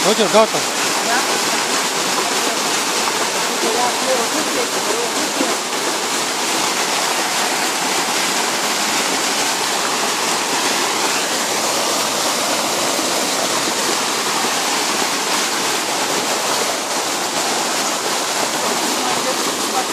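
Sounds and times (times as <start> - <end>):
floodwater rushing: 0.0 - 19.9.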